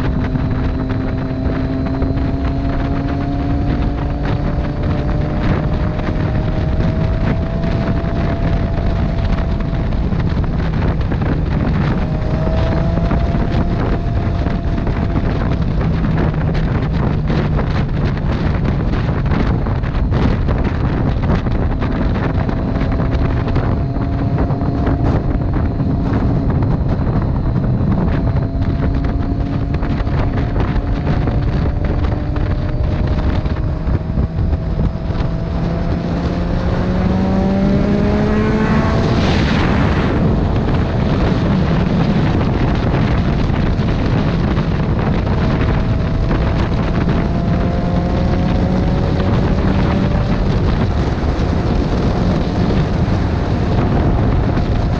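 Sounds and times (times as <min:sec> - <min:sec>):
motorcycle engine running: 0:00.0 - 0:54.9
wind noise on microphone: 0:00.0 - 0:54.9.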